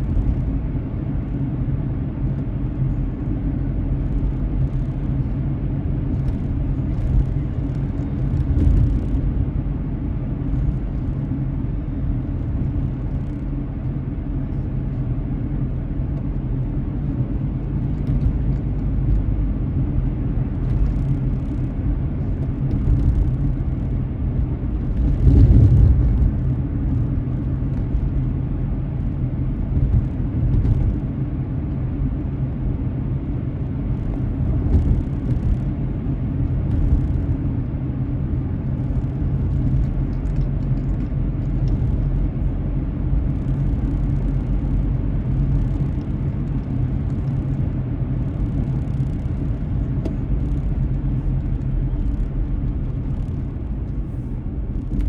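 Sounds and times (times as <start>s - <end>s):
car tyres and engine rumble: 0.0s - 55.0s.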